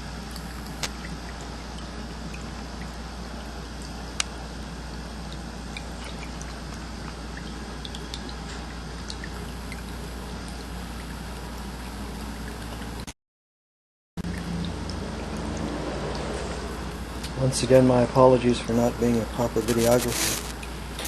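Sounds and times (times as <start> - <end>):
fountain water trickling: 0.0 - 13.0, 14.2 - 19.7
low steady hum: 0.0 - 13.1, 14.2 - 21.0.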